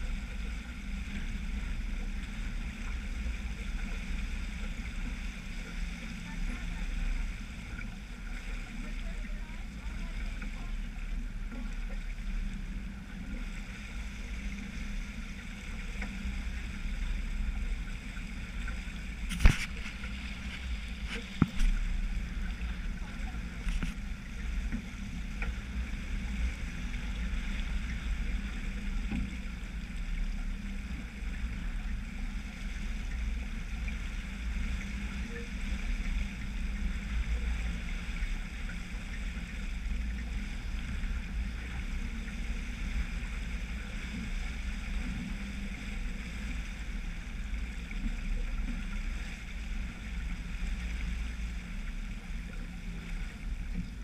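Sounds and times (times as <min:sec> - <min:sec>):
water rushing along hull: 0:00.0 - 0:54.0.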